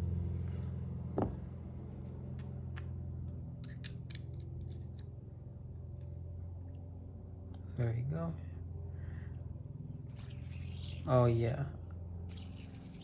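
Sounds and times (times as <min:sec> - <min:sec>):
low background drone: 0:00.0 - 0:13.0.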